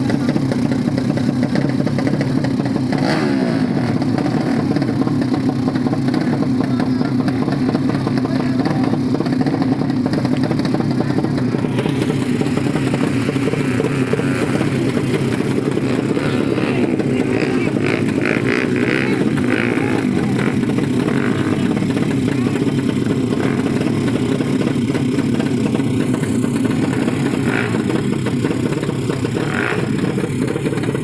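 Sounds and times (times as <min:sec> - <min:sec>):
motorcycle engine running loudly: 0:00.0 - 0:31.0.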